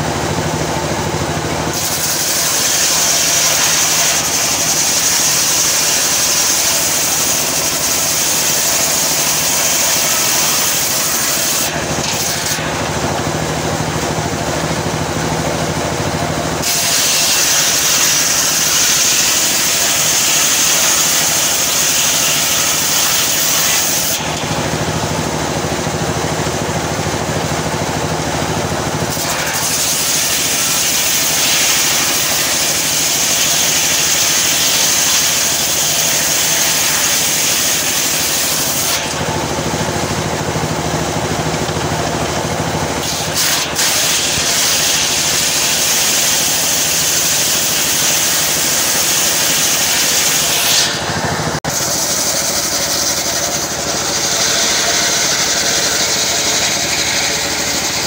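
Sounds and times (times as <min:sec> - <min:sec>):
circular saw cutting wood: 0:00.0 - 0:58.0.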